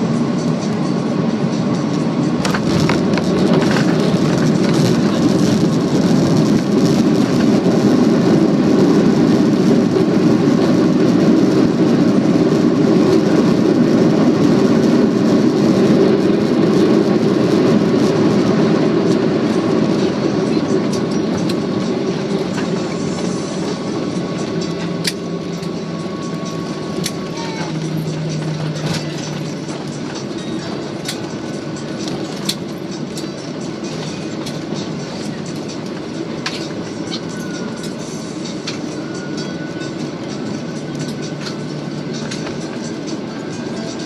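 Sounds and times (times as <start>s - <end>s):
jet cabin rumble: 0.0s - 44.0s.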